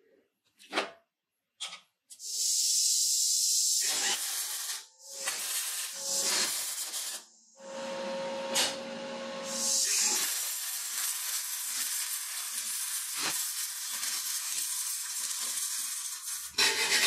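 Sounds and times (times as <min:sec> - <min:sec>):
welding arc hissing and crackling: 0:02.2 - 0:17.0.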